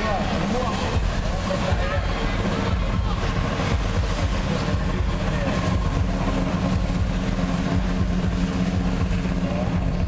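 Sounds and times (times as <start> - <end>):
jet ski engines droning: 0.0 - 10.0.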